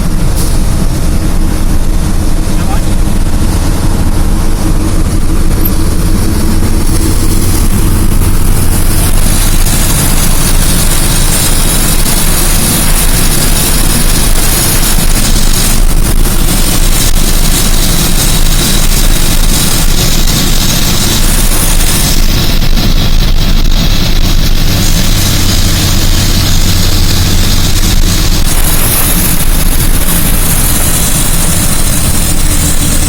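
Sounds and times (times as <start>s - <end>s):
heavy engine droning: 0.0s - 33.0s.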